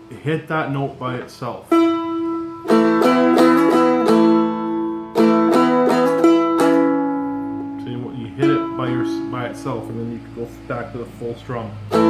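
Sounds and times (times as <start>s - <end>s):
strumstick strumming: 0.0s - 12.0s
ringing chord: 1.7s - 12.0s.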